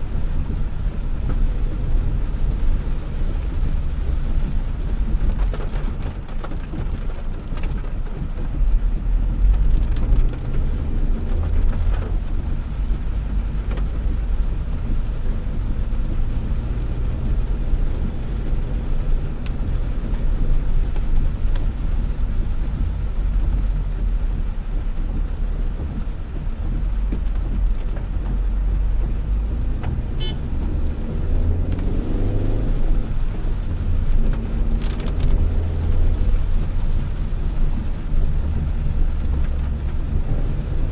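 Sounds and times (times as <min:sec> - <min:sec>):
car engine and tyre rumble: 0:00.0 - 0:40.9
rain and spray hissing: 0:00.0 - 0:40.9.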